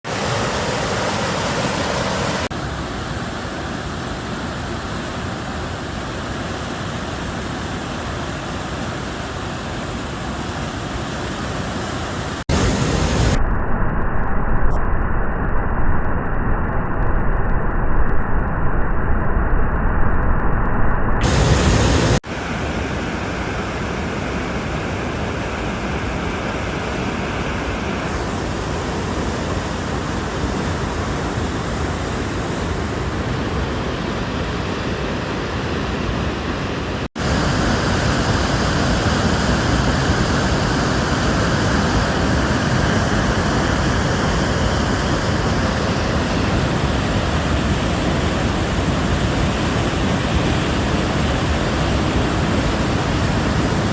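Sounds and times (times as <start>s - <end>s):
waterfall rushing: 0.0s - 13.4s, 21.2s - 53.9s.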